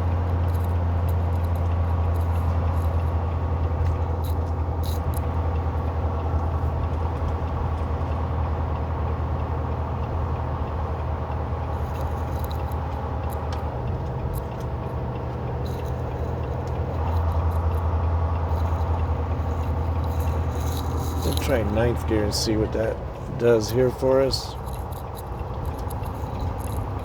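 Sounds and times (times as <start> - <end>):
diesel truck engine droning: 0.0 - 27.0.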